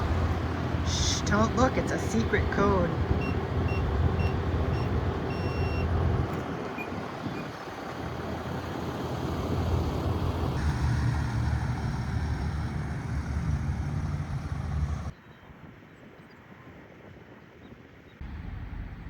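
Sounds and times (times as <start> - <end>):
vehicle engine and road noise: 0.0 - 15.2, 18.2 - 19.0.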